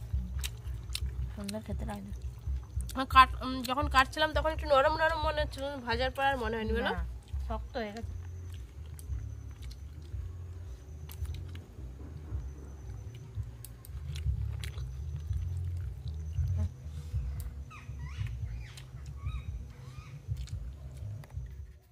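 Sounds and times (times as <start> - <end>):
chewing: 0.0 - 4.3, 6.8 - 21.9
steady low rumble: 0.0 - 21.9.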